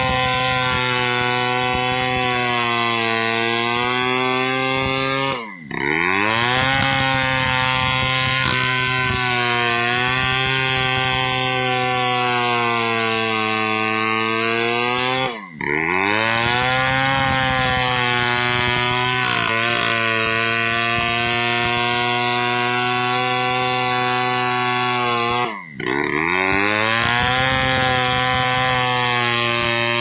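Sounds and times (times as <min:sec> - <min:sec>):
chainsaw sawing wood: 0:00.0 - 0:30.0.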